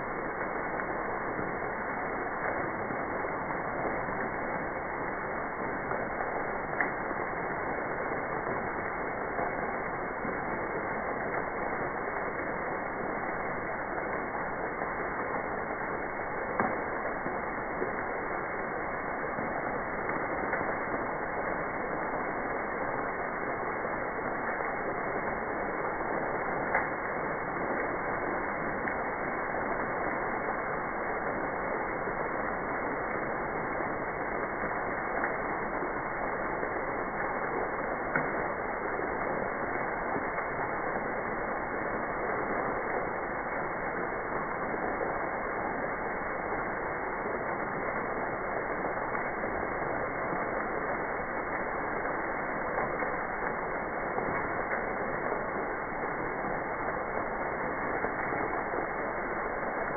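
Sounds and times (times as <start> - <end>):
freezing rain ticking: 0.0 - 59.9.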